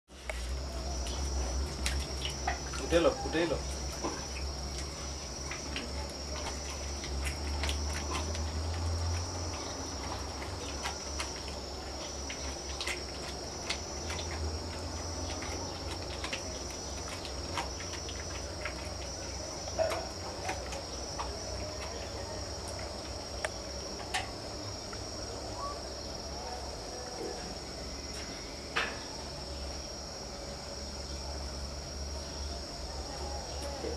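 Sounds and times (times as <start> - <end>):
crickets trilling: 0.1 - 33.9.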